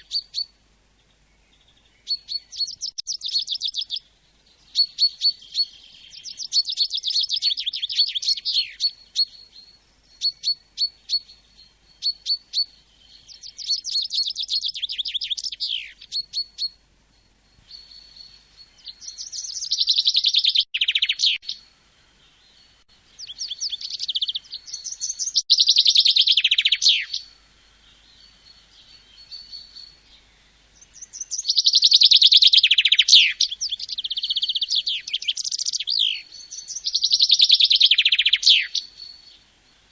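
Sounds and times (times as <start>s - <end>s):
songbirds trilling: 0.0s - 39.9s
sharp bird chirps: 1.5s - 21.7s, 22.4s - 39.9s.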